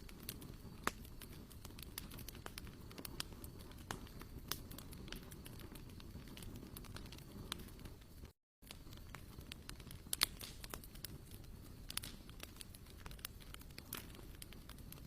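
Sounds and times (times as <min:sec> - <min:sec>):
campfire crackling: 0:00.0 - 0:15.0
fire pops: 0:00.0 - 0:15.0.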